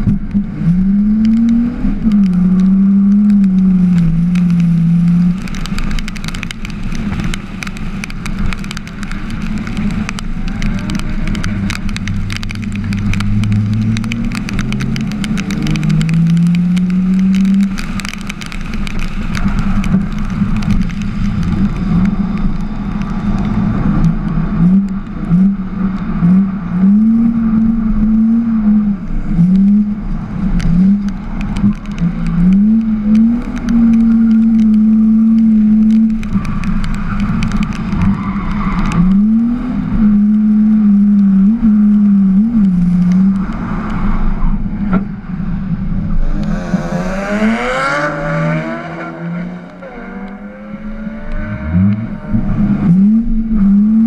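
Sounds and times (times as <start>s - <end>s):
car engine revving: 0.0s - 54.0s
crackling buffeting noise: 0.0s - 54.0s.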